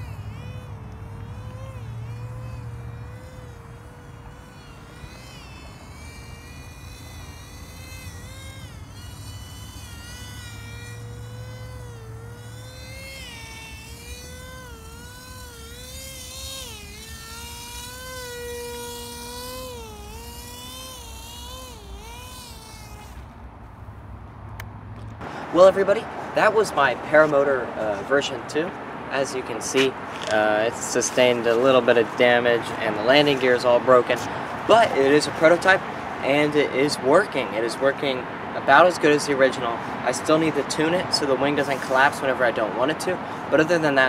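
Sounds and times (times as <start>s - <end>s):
small electric motor propeller whining: 0.0s - 44.0s.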